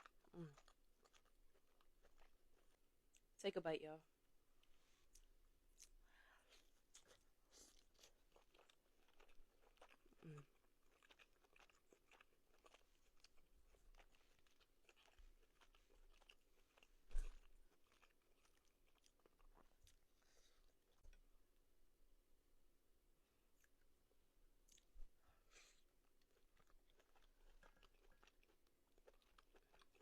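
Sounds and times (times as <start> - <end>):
close-up chewing: 0.0 - 3.3, 4.6 - 21.3, 24.6 - 30.0.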